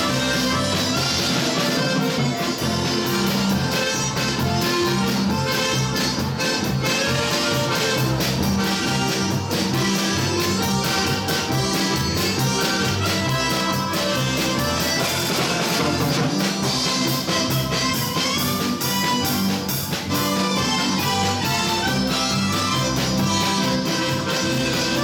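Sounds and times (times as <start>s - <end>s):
polka band with accordions: 0.0s - 25.0s.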